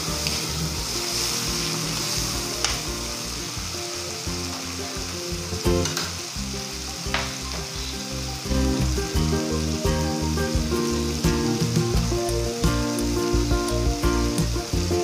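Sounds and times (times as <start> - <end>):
background music: 0.0 - 15.0
food sizzling in hot oil: 0.0 - 15.0.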